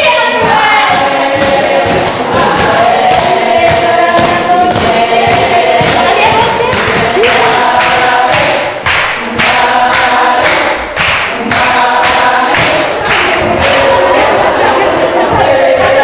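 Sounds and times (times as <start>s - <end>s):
group singing in chorus: 0.0s - 16.0s
steady beat: 0.0s - 16.0s.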